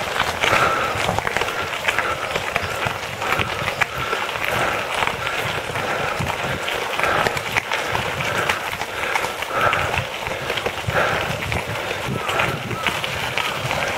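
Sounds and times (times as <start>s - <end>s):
bike tyres crunching on gravel: 0.0s - 13.9s.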